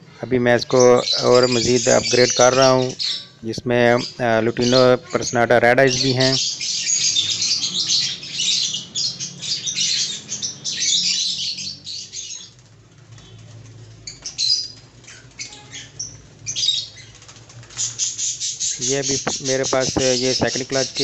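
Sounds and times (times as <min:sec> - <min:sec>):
lovebirds chirping and squawking: 0:00.0 - 0:21.0.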